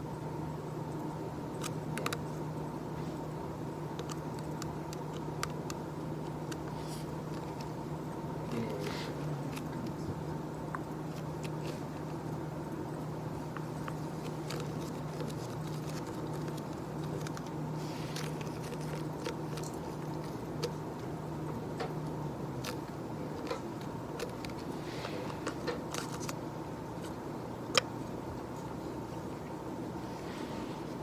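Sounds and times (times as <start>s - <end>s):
low office hum: 0.0s - 31.0s.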